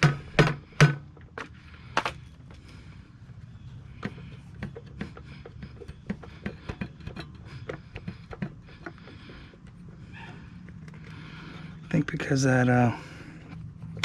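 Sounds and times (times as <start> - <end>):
hand tools and engine parts clicking: 0.0 - 14.0.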